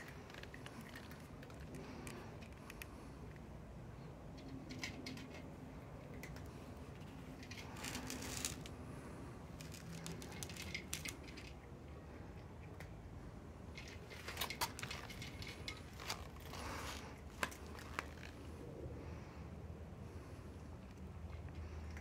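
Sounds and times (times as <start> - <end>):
cat crunching food: 0.0 - 18.7.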